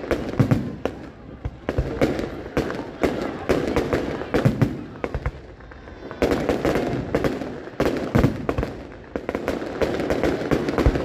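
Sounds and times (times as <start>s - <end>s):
fireworks bangs and crackles: 0.0s - 11.0s
fireworks rolling rumble: 0.0s - 11.0s.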